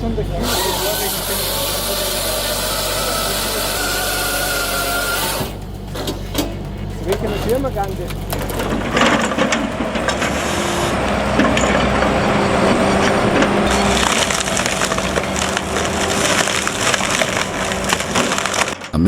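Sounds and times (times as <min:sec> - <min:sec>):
machine droning: 0:00.0 - 0:19.0
wood cracking and splintering: 0:00.4 - 0:19.0.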